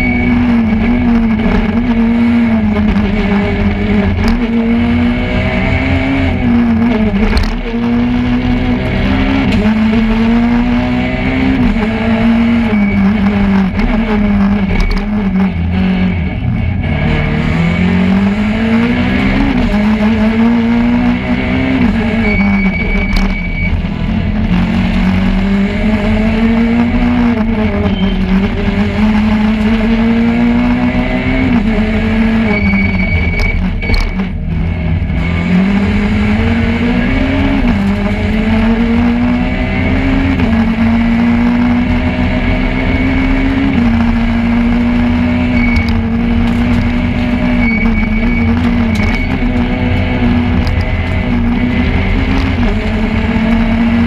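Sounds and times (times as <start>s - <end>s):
rally car engine revving: 0.0s - 54.0s
road noise: 0.0s - 54.0s.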